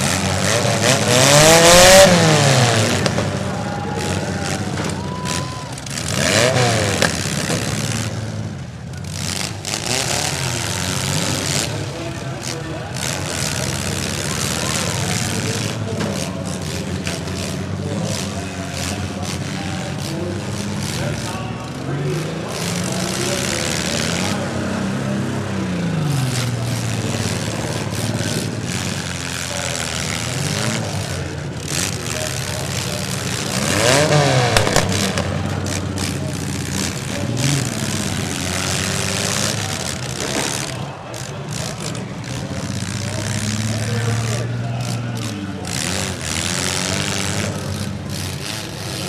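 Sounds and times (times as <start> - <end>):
car engines revving: 0.0 - 49.0
noisy arena din: 0.0 - 49.0.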